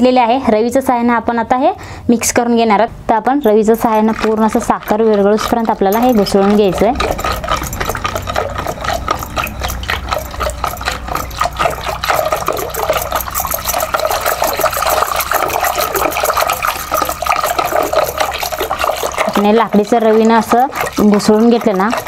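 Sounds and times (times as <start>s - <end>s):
stick sloshing pulp in pot: 3.4s - 22.0s.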